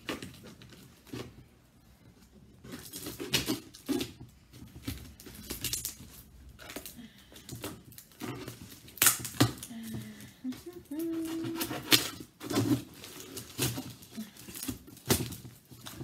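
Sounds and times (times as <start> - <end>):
parcel packaging rustling and tearing: 2.3 - 16.0.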